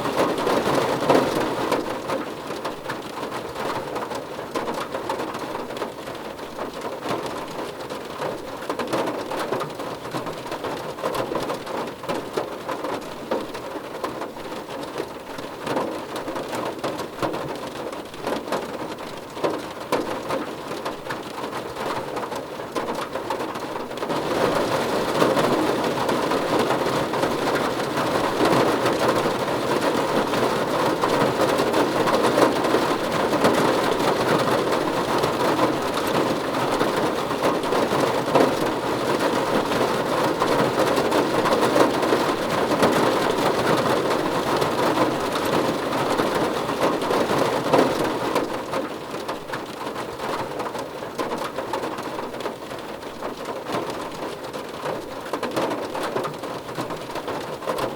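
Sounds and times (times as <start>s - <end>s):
rain on a car roof: 0.0s - 57.9s.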